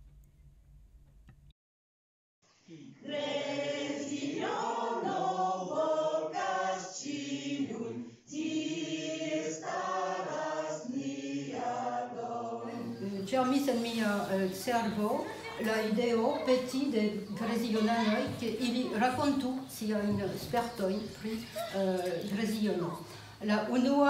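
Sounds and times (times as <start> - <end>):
choir singing held notes: 2.8 - 23.5.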